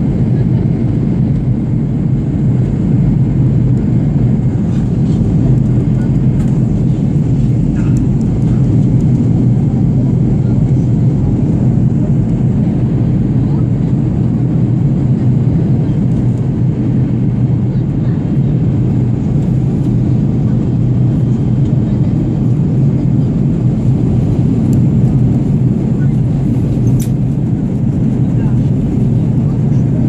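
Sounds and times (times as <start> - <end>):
airplane engines and rushing air: 0.0 - 30.0.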